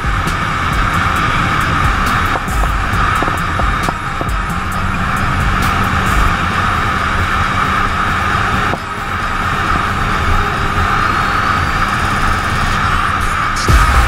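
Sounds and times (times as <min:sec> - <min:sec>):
motorcycle engine at speed: 0:00.0 - 0:14.0
wind noise: 0:00.0 - 0:14.0.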